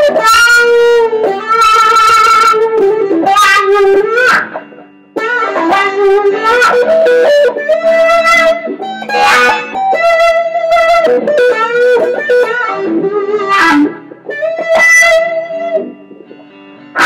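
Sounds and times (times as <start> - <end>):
fuzz electric guitar lead notes: 0.0 - 17.0.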